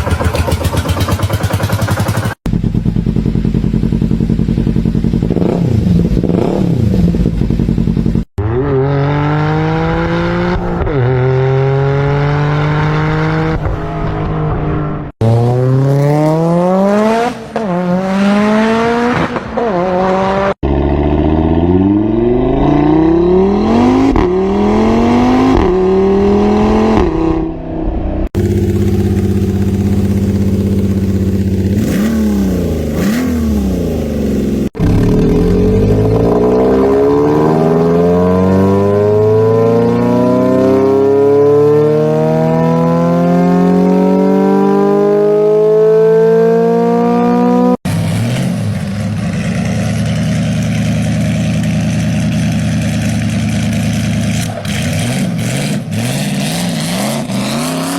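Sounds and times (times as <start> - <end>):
car engines accelerating hard: 8.4 - 27.5, 28.2 - 57.9.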